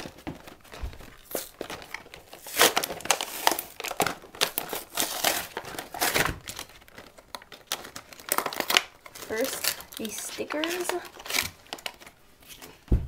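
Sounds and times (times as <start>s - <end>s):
plastic packaging crinkling and tearing: 0.0s - 12.8s.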